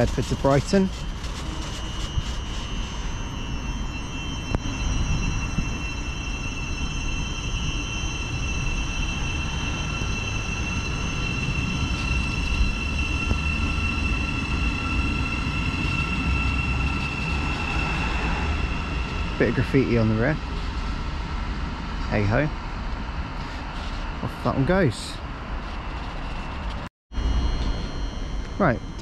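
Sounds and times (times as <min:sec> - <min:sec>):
electric train traction whine: 0:00.0 - 0:29.0
wheels rumbling on track: 0:00.0 - 0:29.0.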